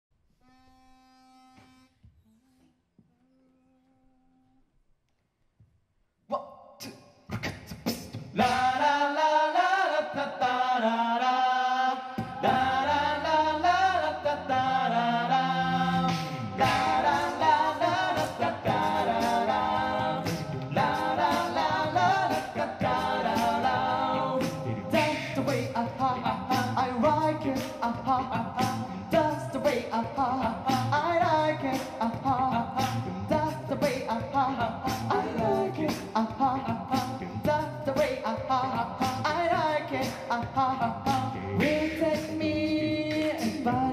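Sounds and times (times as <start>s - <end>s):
vocal percussion beat: 6.3s - 11.1s, 11.8s - 43.9s
bass voice singing: 6.3s - 43.9s
a cappella group singing: 6.8s - 43.9s.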